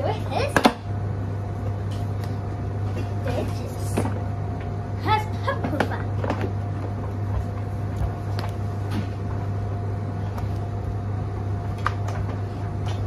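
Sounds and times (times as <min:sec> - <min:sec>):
background hum with high tone: 0:00.0 - 0:13.0.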